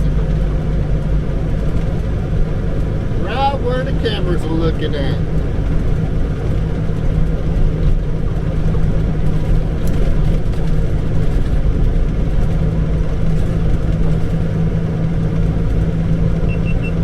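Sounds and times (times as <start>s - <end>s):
diesel truck engine droning: 0.0s - 17.0s
road noise: 0.0s - 17.0s.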